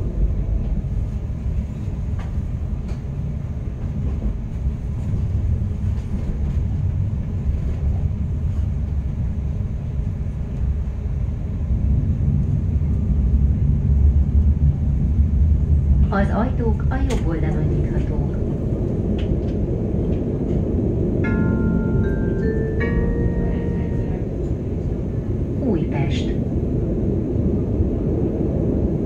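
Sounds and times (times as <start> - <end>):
low rumble of wheels on rail: 0.0 - 29.0.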